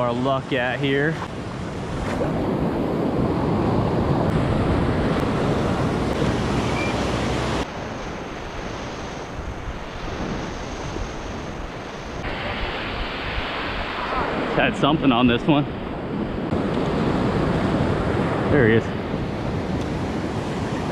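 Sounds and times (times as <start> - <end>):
ocean surf breaking: 0.0 - 20.9
wind buffeting microphone: 0.0 - 20.9.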